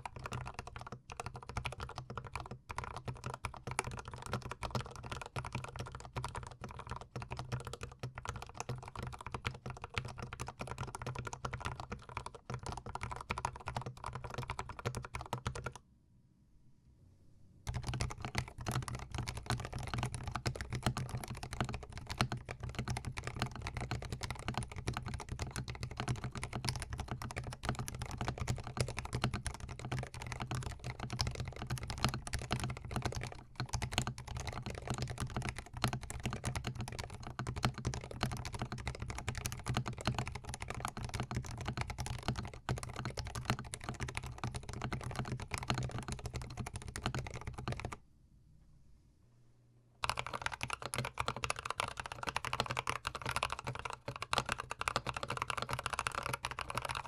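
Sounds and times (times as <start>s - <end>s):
mechanical keyboard typing: 0.0s - 15.8s, 17.7s - 48.0s, 50.0s - 57.0s.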